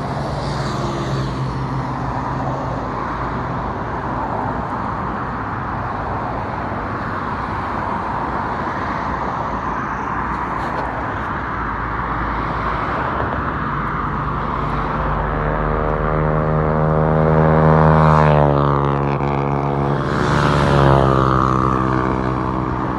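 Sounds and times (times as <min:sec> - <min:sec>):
vehicle passing by: 0:00.0 - 0:08.6, 0:09.2 - 0:22.9
highway traffic hum: 0:00.0 - 0:22.9.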